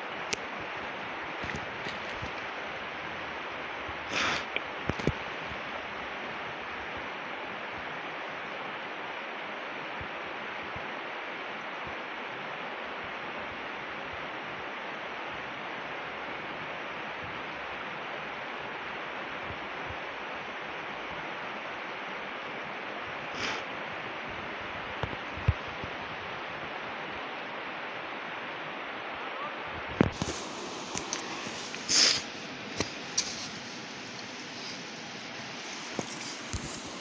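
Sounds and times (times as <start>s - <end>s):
river rushing over rapids: 0.0s - 37.0s.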